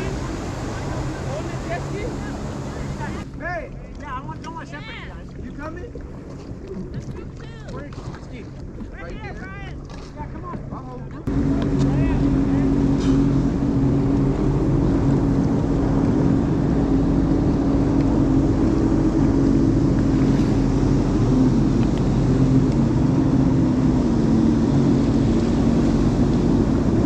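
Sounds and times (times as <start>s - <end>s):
jet ski engine running: 0.0s - 27.0s.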